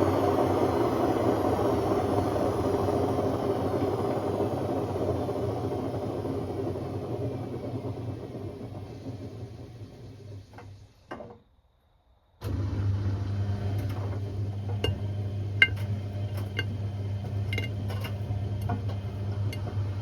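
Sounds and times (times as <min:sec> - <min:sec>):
washing machine rumble: 0:00.0 - 0:11.0, 0:12.4 - 0:20.0.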